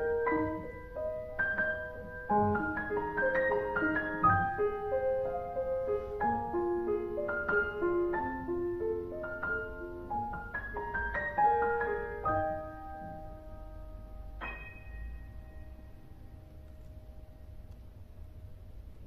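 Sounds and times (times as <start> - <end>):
grand piano playing: 0.0 - 17.8.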